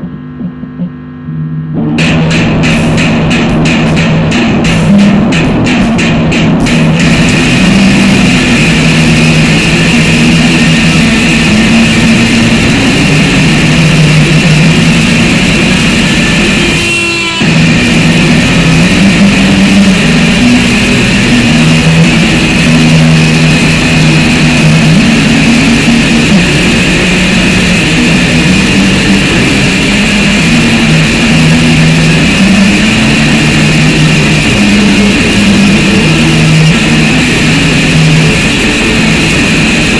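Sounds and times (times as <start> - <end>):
harsh distorted noise music: 0.0 - 39.9.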